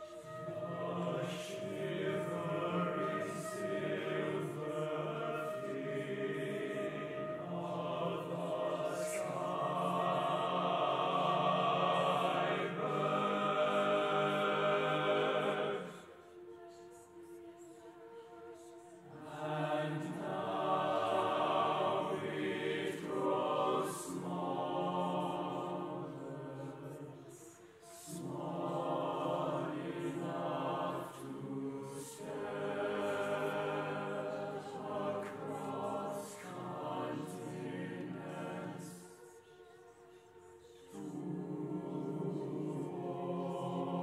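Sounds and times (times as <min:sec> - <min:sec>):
choir singing a cappella: 0:00.0 - 0:44.0.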